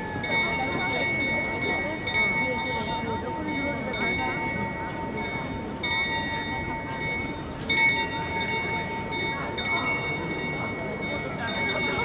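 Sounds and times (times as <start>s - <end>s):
clock bell tolling: 0.0s - 12.0s
crowd murmuring: 0.0s - 12.0s.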